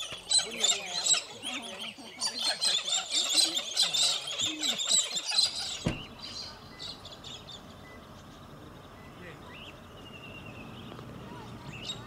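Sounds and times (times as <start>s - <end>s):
faint distant bird calls: 0.0s - 12.0s
galahs calling: 0.0s - 12.0s.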